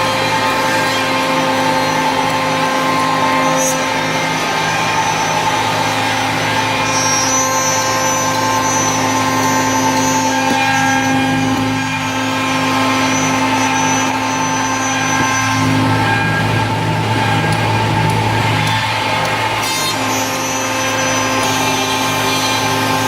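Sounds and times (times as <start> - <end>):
higher whine: 0.0 - 23.0
wood router whining: 0.0 - 23.0.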